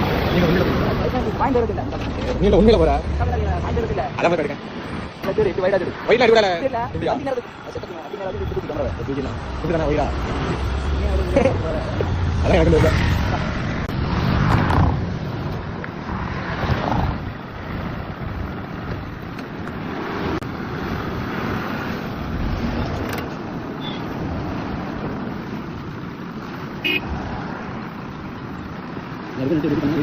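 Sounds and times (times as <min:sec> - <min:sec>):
motor vehicle rumbling: 0:00.0 - 0:30.0.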